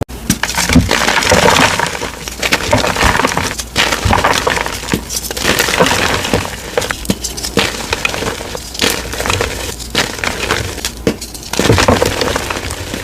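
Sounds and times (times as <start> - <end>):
chalk blocks being crushed: 0.2 - 13.0.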